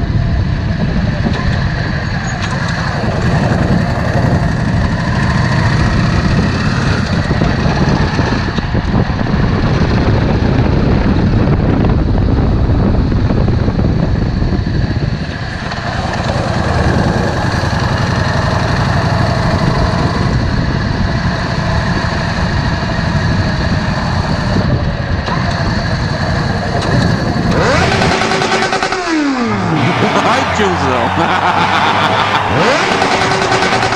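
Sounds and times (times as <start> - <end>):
motorcycle engine running: 0.0 - 30.5, 31.1 - 33.9.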